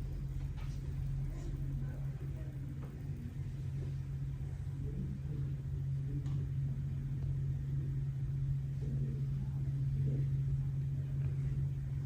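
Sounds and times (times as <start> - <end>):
faint murmuring voices: 0.0 - 12.0
steady low hum: 0.0 - 12.0.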